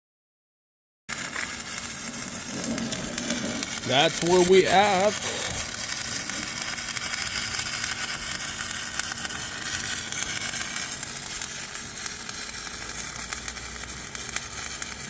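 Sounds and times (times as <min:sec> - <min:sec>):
arc welding crackling sizzle: 0:01.1 - 0:15.0.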